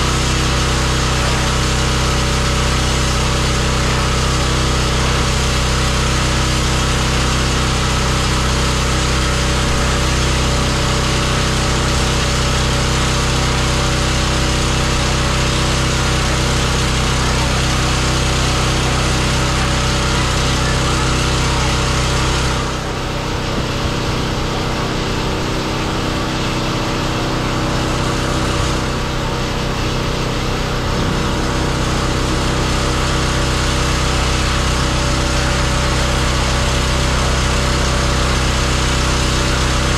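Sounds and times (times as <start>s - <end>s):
pressure washer engine hum: 0.0s - 39.9s.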